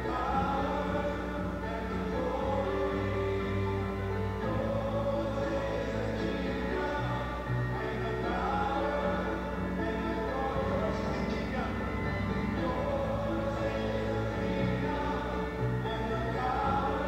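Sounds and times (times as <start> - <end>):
choir singing long held chords: 0.0 - 17.0.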